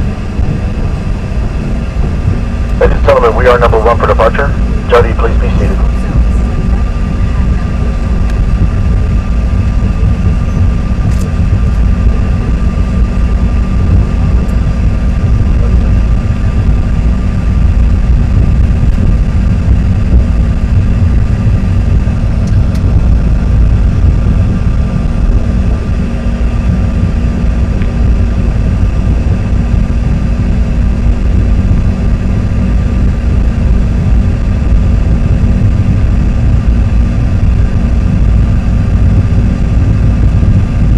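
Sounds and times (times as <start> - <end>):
jet engine whine: 0.0 - 40.9
wheels and airframe rumble: 0.0 - 40.9.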